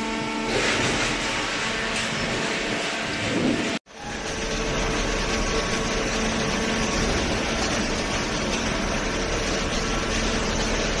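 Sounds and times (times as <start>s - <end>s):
baler mechanical hum: 0.0s - 11.0s.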